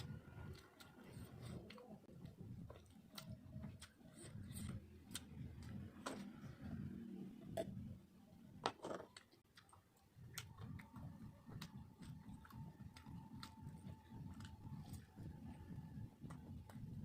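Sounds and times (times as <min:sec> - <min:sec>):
person chewing food: 0:00.0 - 0:07.8, 0:09.0 - 0:17.0.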